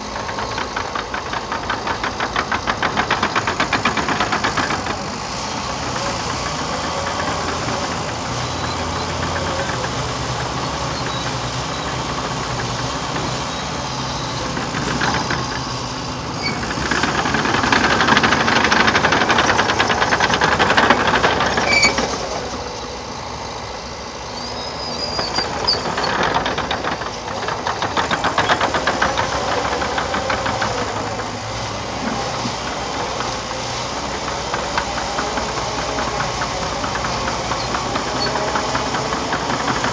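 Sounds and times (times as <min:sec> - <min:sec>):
diesel engine under load: 0:00.0 - 0:39.9
tracks clattering: 0:00.0 - 0:39.9
high squeaks: 0:00.2 - 0:23.0, 0:24.3 - 0:39.9.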